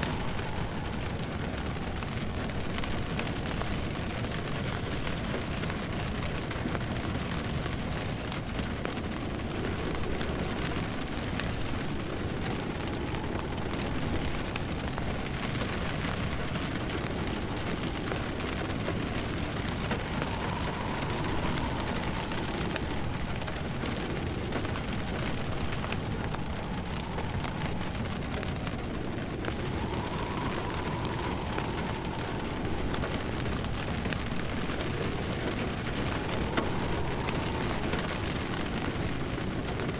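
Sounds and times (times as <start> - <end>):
rain pattering: 0.0 - 39.9
wind howling: 0.0 - 39.9
wood fire crackling: 0.0 - 39.9.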